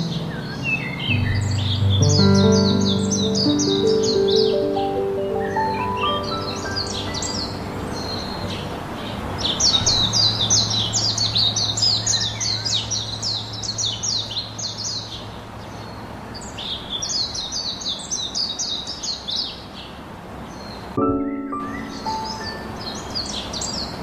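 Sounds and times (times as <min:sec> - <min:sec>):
bird chirping: 0:00.0 - 0:24.0.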